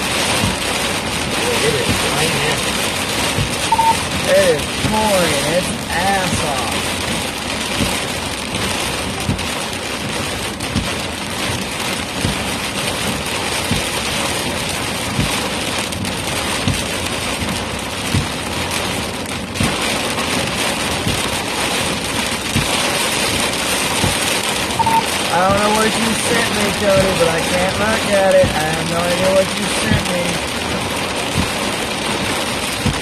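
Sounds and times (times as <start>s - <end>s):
heavy rain on a vehicle: 0.0s - 33.0s.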